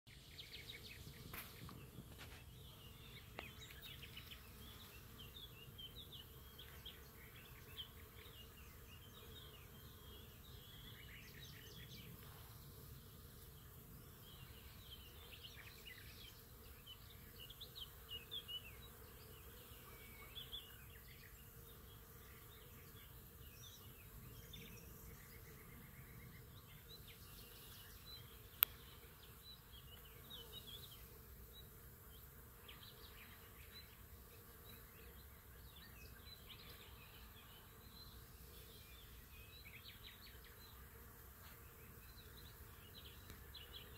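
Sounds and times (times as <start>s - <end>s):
bees buzzing faintly: 0.1s - 43.9s.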